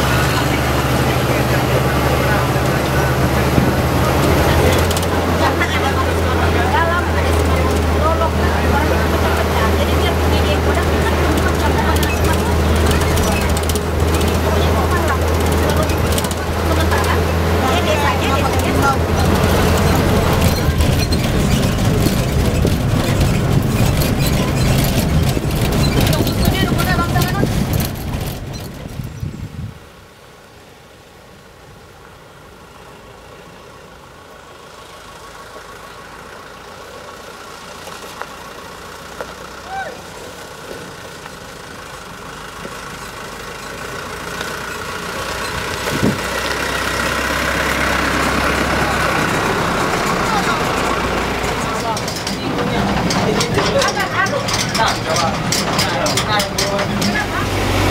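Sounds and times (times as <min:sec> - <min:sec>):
light rattles: 0:00.0 - 0:29.5, 0:35.0 - 0:57.9
bus engine rumble: 0:00.0 - 0:57.9.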